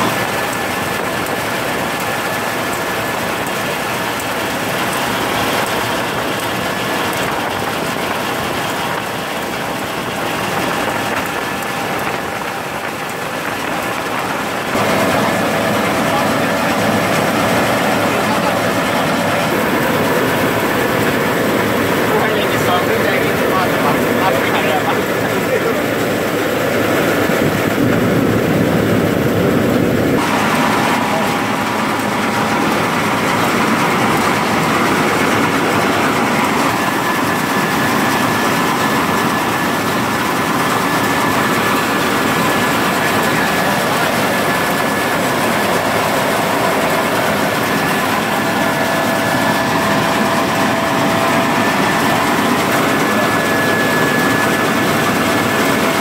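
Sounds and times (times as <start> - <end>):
combine harvester mechanical drone: 0.0 - 56.0
thin steady whine: 0.0 - 56.0.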